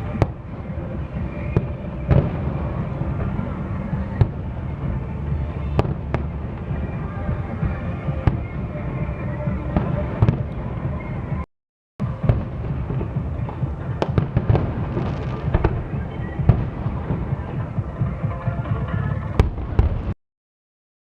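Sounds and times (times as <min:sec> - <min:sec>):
fireworks booming and crackling: 0:00.0 - 0:11.4, 0:12.0 - 0:20.2
music: 0:00.0 - 0:20.2.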